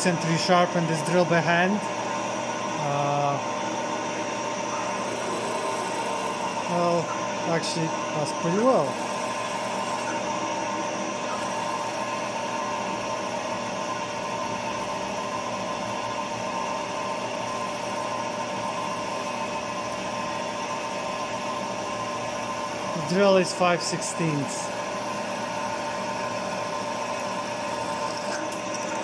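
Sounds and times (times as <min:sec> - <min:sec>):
milling machine drilling metal: 0:00.0 - 0:29.0.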